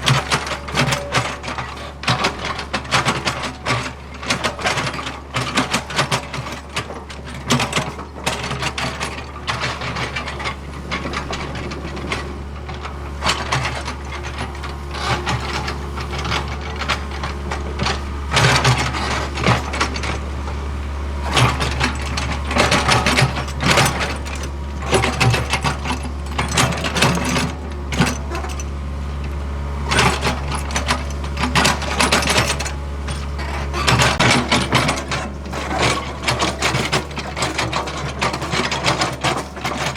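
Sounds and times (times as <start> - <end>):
clanking and scraping: 0.0 - 20.6, 21.2 - 39.9
excavator diesel engine hum: 0.0 - 39.9.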